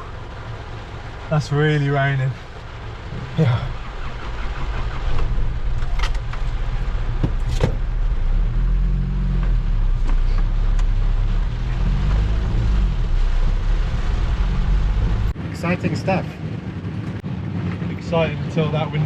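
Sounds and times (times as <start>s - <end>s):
heavy rain on vehicle: 0.0s - 16.2s
truck engine running: 0.0s - 19.0s.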